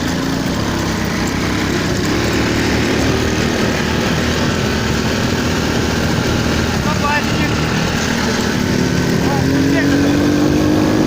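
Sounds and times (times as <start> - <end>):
motorcycle engine running: 0.0 - 11.0
wind rushing over microphone: 0.6 - 11.0.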